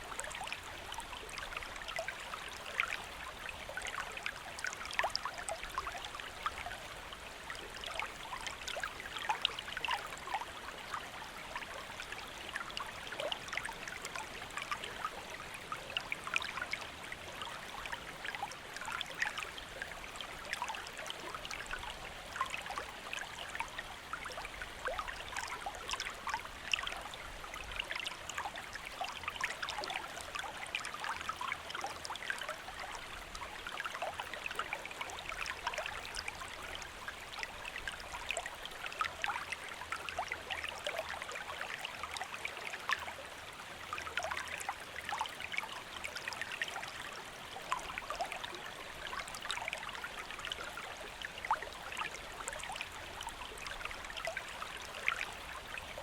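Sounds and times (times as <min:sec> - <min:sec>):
shallow stream babbling over rocks: 0:00.0 - 0:56.0.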